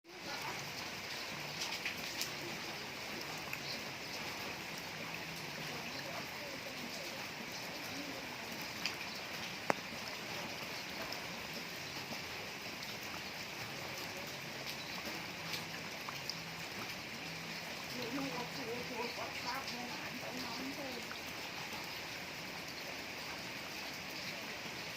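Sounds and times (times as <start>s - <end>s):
steady rain falling: 0.0s - 24.9s
drips and taps: 0.3s - 22.1s.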